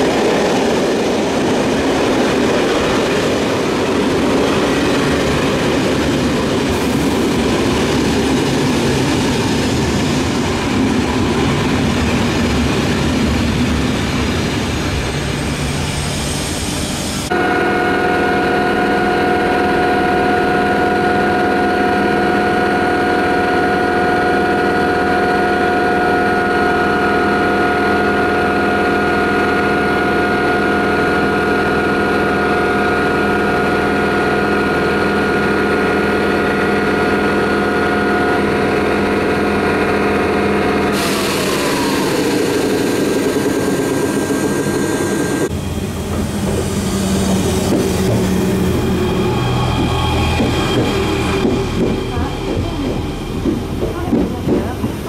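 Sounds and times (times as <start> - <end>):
electric locomotive whine: 0.0 - 55.0
electric train arriving: 0.0 - 55.0.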